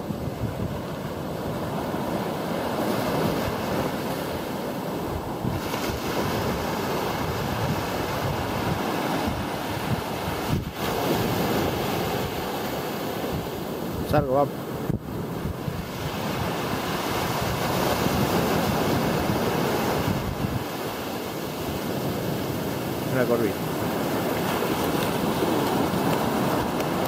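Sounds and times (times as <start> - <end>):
small waves washing on sand: 0.0 - 27.0
wind buffeting microphone: 0.0 - 27.0.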